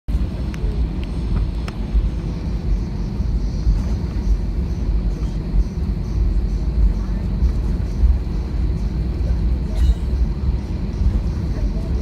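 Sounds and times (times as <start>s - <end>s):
airliner low rumble: 0.1s - 12.0s.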